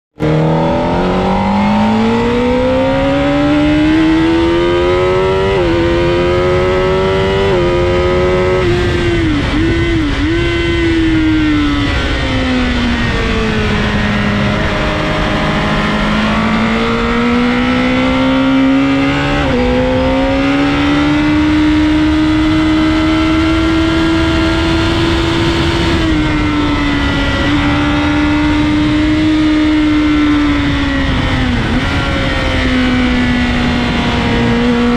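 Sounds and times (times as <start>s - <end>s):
motorcycle engine revving: 0.1s - 34.9s
wind rushing: 0.2s - 34.9s.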